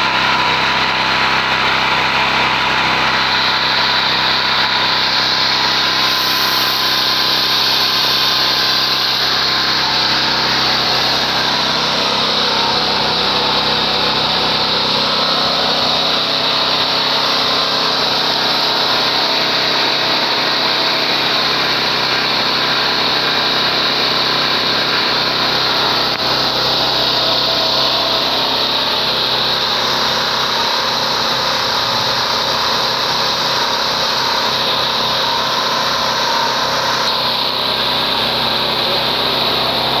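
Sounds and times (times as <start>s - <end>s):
portable generator engine running: 0.0s - 40.0s.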